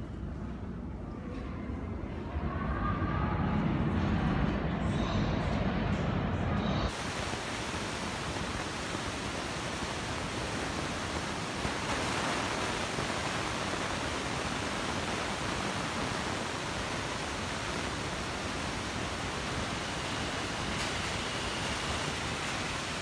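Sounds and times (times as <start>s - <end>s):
subway station rushing noise: 0.0s - 23.0s.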